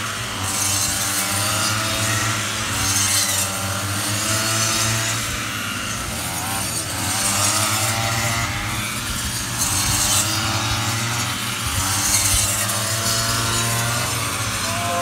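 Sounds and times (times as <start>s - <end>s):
brush cutter engines running: 0.0s - 15.0s.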